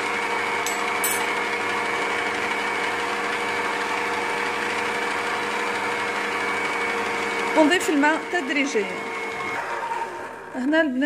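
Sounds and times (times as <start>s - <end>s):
stand mixer running: 0.0s - 11.0s.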